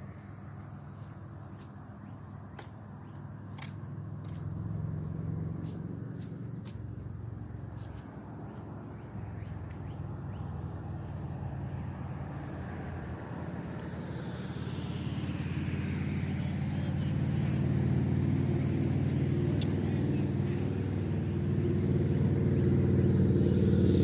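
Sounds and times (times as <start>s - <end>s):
engine rumble: 0.0s - 24.0s.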